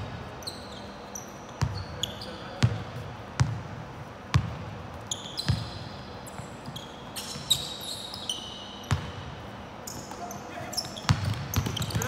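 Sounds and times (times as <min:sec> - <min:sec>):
sneakers squeaking on floor: 0:00.2 - 0:03.6, 0:04.3 - 0:12.0.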